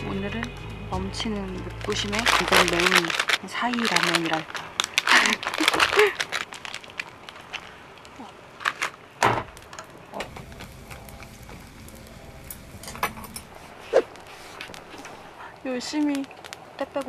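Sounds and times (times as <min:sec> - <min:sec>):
low rumble of flame: 0:00.0 - 0:17.0
wood fire knocks and crackles: 0:00.0 - 0:17.0.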